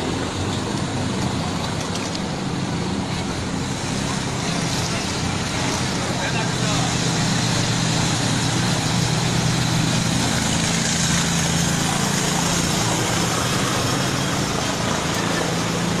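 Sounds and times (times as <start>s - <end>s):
constant rushing noise: 0.0s - 16.0s
low engine hum: 0.0s - 16.0s.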